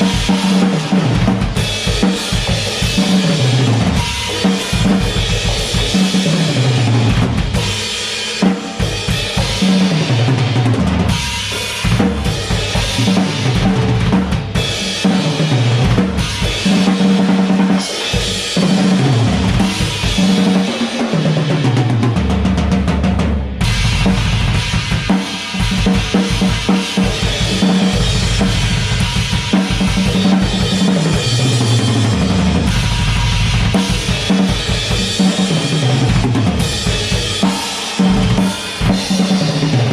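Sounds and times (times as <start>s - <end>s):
recorded track with bass line: 0.0s - 7.9s, 8.8s - 20.6s, 21.6s - 39.9s
drum kit played fast: 0.0s - 39.9s.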